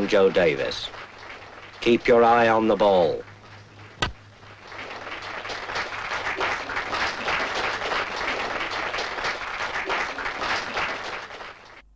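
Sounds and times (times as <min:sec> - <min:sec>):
low steady hum: 0:00.0 - 0:09.6
audience applauding: 0:00.0 - 0:11.8.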